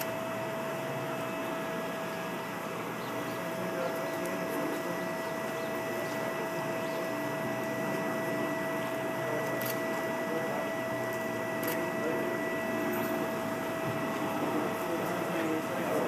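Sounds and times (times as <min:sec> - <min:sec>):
machine hum with whine: 0:00.0 - 0:16.0.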